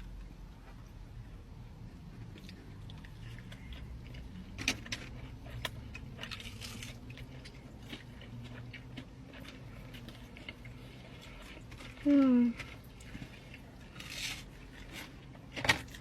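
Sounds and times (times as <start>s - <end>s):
low steady hum: 0.0s - 16.0s
biting and chewing: 2.2s - 16.0s.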